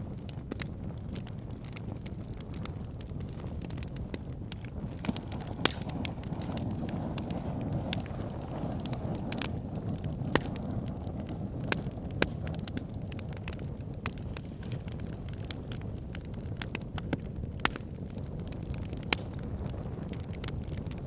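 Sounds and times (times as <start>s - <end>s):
fire popping: 0.0s - 21.0s
wood fire crackling: 0.0s - 21.0s.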